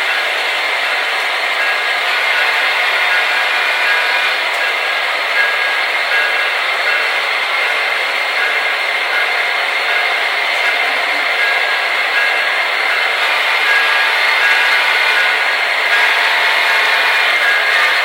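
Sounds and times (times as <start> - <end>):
model locomotive engine sound drone: 0.0 - 18.0.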